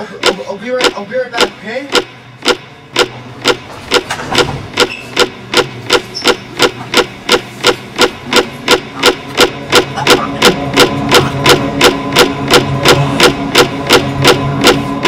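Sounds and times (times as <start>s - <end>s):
low steady hum: 0.0s - 15.0s
rapid sharp percussive knocks: 0.0s - 15.0s.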